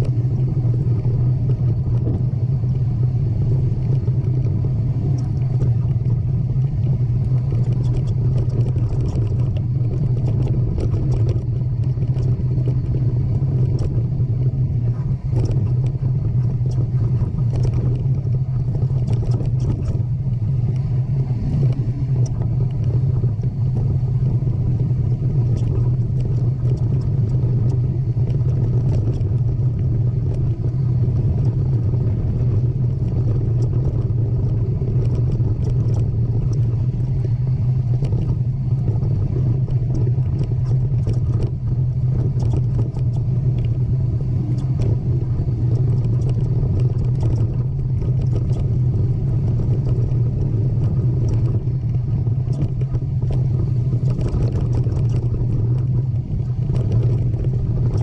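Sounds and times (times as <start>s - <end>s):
loud low rumble: 0.0s - 58.0s
light clicks and rattles: 3.7s - 20.9s, 21.5s - 58.0s.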